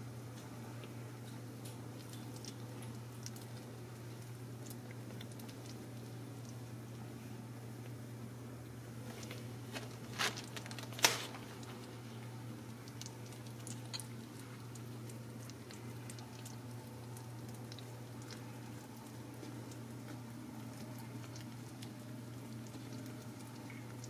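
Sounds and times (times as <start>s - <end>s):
steady low hum: 0.0s - 24.0s
faint ticks and rustles: 0.3s - 7.2s, 9.1s - 24.0s.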